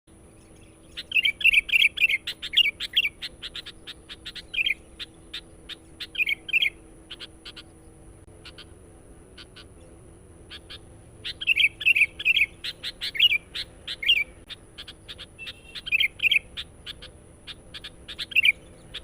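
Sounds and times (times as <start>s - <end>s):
bulbul chattering calls: 0.1s - 19.0s.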